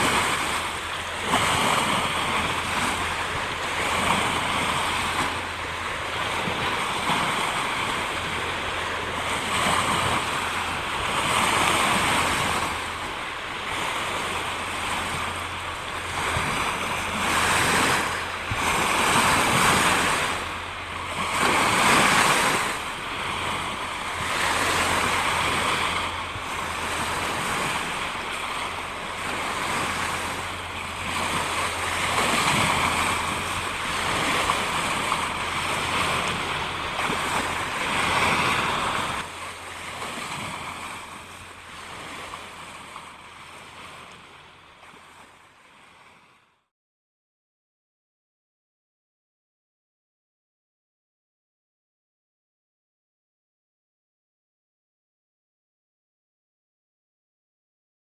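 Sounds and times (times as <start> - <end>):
waves breaking: 0.0 - 46.7.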